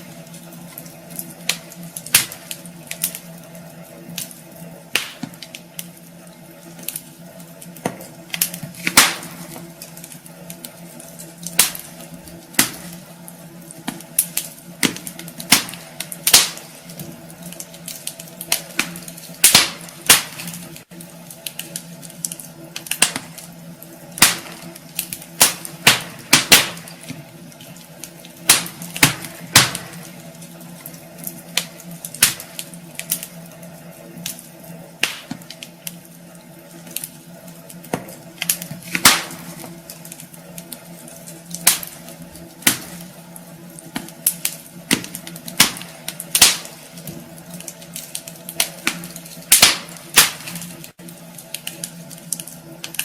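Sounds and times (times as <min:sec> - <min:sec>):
faint steady hum: 0:00.0 - 0:53.0
wood fire crackling: 0:00.0 - 0:53.0.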